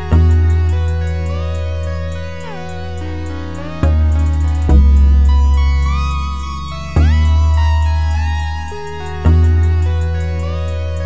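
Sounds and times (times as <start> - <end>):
guitar music with strong bass: 0.0 - 11.0.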